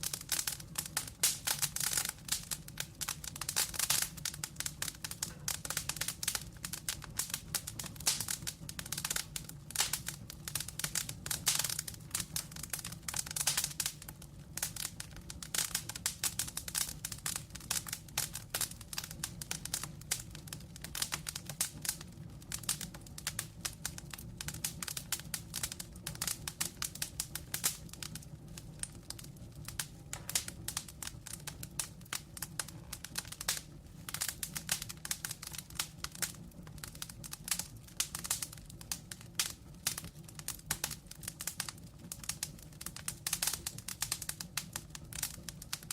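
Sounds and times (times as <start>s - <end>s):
low rumble of flame: 0.0s - 45.9s
wood fire crackling and popping: 0.0s - 45.9s.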